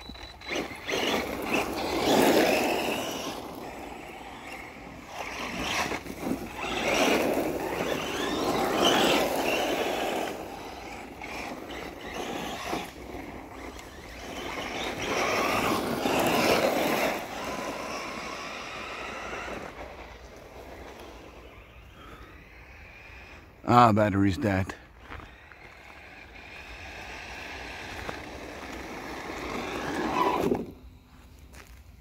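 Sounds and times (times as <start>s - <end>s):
tyres crunching on gravel: 0.0s - 23.4s, 24.0s - 32.0s
rc truck motor whine: 0.0s - 23.9s, 24.6s - 32.0s.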